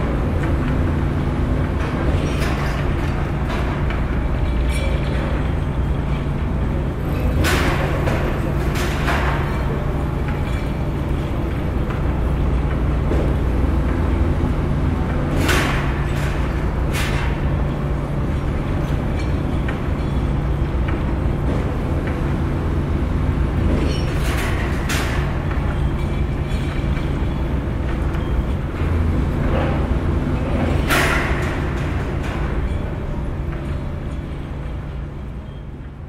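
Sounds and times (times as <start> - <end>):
heavy machinery engine rumble: 0.0 - 35.6.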